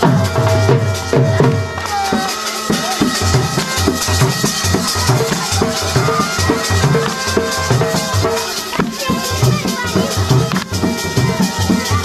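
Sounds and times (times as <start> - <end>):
loud music with drum beat: 0.0 - 12.0.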